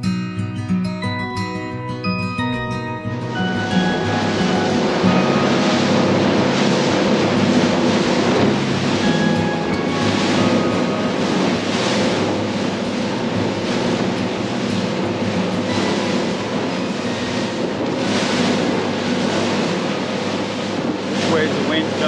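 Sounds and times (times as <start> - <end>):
boat engine drone: 0.8 - 22.0
water rushing off hull: 2.9 - 22.0.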